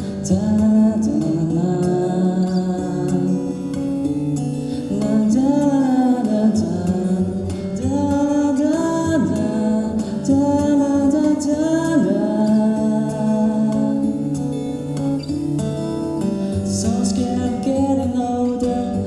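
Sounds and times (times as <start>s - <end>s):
acoustic guitar chords: 0.0s - 19.0s
person singing wordlessly: 0.0s - 19.0s.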